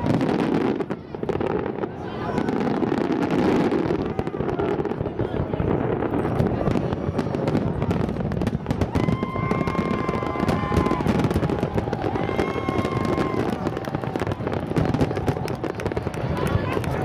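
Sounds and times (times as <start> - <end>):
high fireworks whistles: 0.0 - 16.2
fireworks crackling and banging: 0.0 - 17.0.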